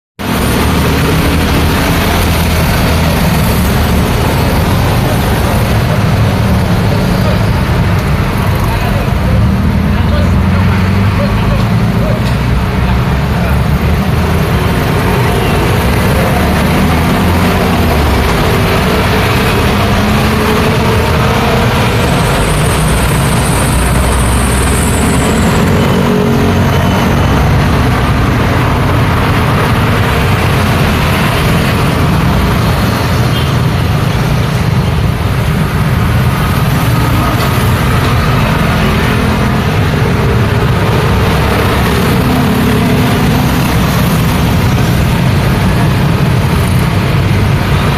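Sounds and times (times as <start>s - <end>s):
road traffic passing: 0.2s - 47.9s.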